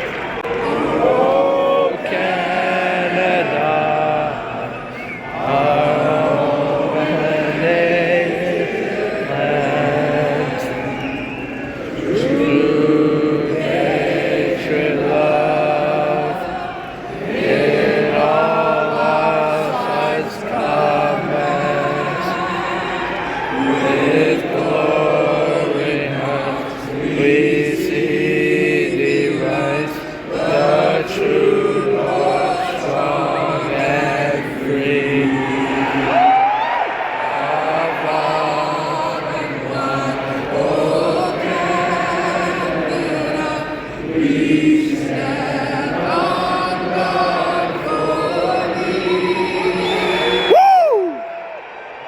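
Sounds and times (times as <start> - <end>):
voices singing slow melody: 0.0 - 51.3.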